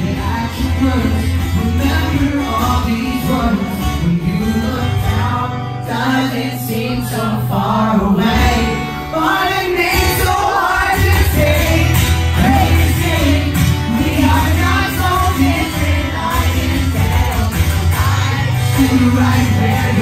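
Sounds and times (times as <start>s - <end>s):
acoustic guitar: 0.0s - 20.0s
live rock music: 0.0s - 20.0s
person singing: 0.0s - 20.0s.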